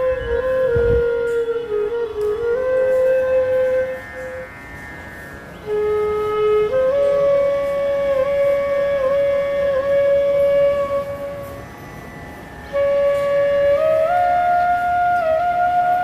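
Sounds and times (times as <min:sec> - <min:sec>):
flute melody: 0:00.0 - 0:16.0.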